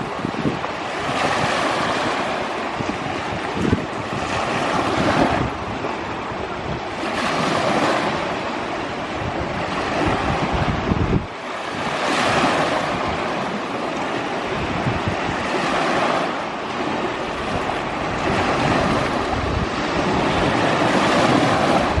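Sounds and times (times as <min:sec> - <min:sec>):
sea waves washing in: 0:00.0 - 0:22.0
wind buffeting microphone: 0:00.0 - 0:22.0.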